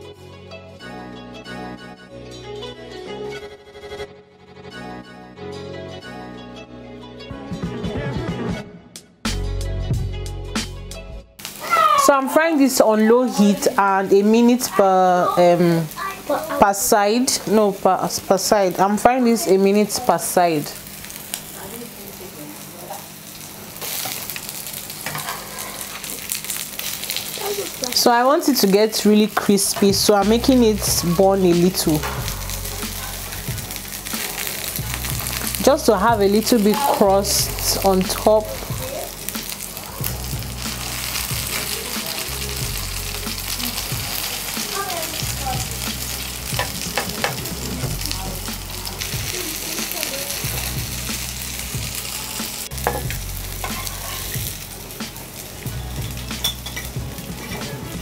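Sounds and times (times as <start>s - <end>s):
patties sizzling in oil: 11.4s - 58.0s.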